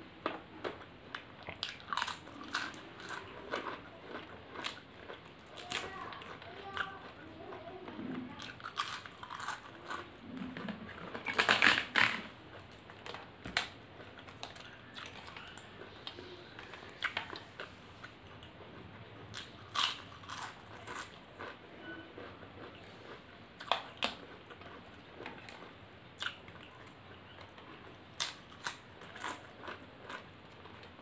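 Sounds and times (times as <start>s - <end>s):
person chewing: 0.6s - 30.9s.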